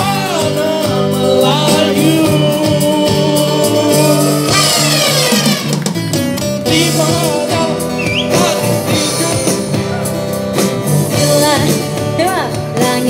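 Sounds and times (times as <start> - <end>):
amplified person singing: 0.0 - 5.4, 6.6 - 13.0
acoustic guitar: 0.0 - 13.0
sustained bass: 0.0 - 13.0.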